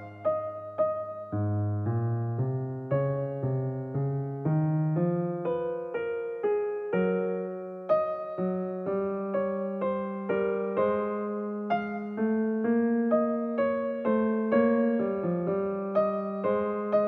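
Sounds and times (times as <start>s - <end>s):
gentle piano-like keyboard melody: 0.0s - 17.0s.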